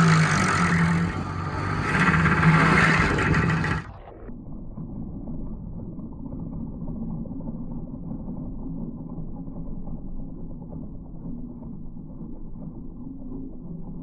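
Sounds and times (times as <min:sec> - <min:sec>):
deep machine rumble: 0:00.0 - 0:14.0.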